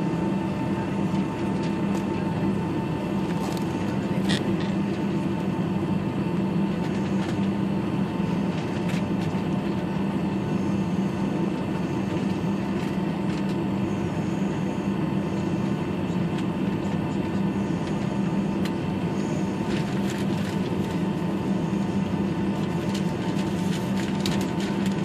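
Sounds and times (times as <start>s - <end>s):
airliner cabin drone: 0.0s - 25.0s
faint steady whine: 0.0s - 25.0s.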